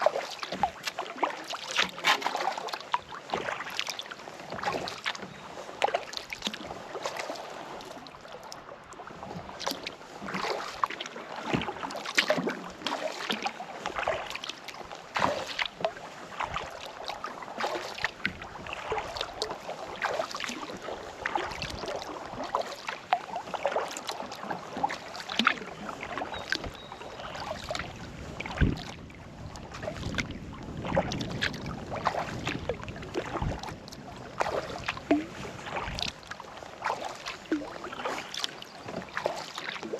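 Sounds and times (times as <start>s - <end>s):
water dripping off paddle: 0.0s - 30.3s, 30.9s - 39.9s
paddle splashing in water: 0.0s - 39.9s.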